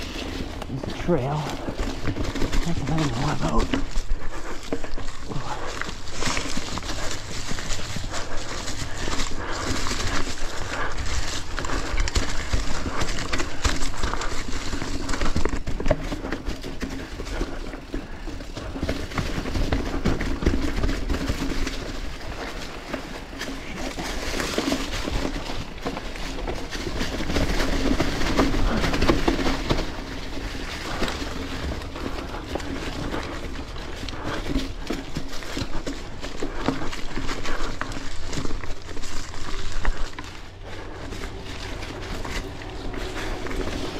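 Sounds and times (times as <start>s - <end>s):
bike clattering over bumps: 0.0s - 43.9s
bike tyres crunching over leaves: 0.0s - 43.9s.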